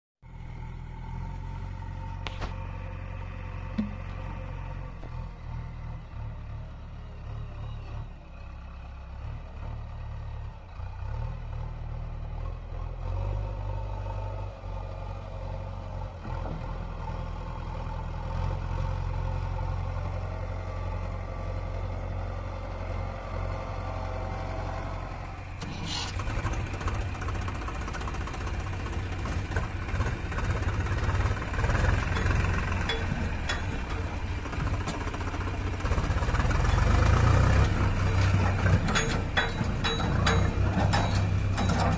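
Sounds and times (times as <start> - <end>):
backhoe diesel engine running: 0.3 - 41.9
tractor diesel engine running: 0.3 - 41.9.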